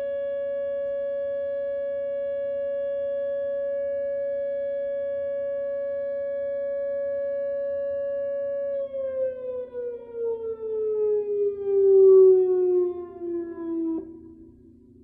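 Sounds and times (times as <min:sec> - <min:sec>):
warning siren gliding down: 0:00.0 - 0:14.8.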